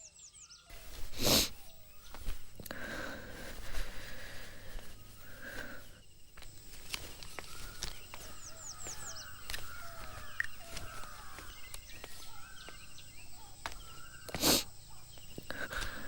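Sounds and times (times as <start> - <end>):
birds calling and chirping: 0.0 - 16.0.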